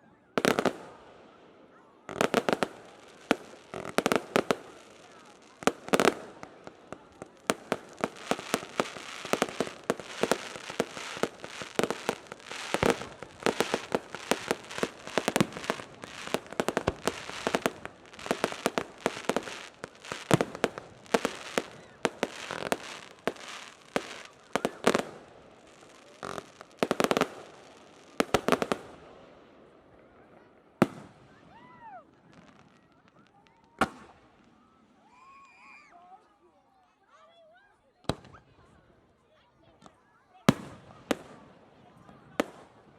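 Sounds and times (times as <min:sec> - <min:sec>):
fireworks bangs and crackling: 0:00.4 - 0:34.6, 0:38.0 - 0:38.4, 0:39.8 - 0:42.9.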